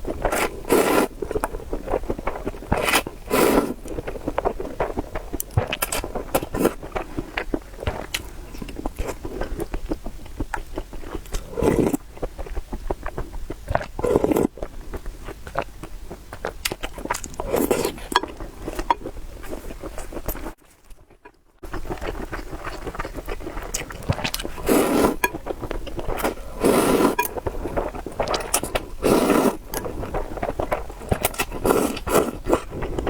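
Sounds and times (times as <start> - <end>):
chewing noodles with wet mouth clicks: 0.1 - 33.0.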